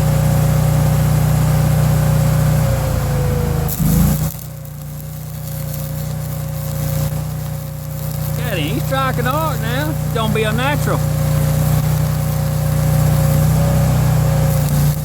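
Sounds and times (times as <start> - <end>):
engine running: 0.0 - 15.0
welding arc crackling: 0.0 - 15.0.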